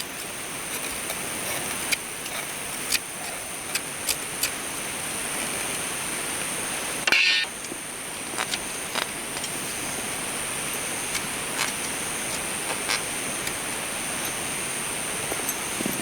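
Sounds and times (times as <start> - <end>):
campfire crackling and popping: 0.1 - 5.9, 7.6 - 16.0.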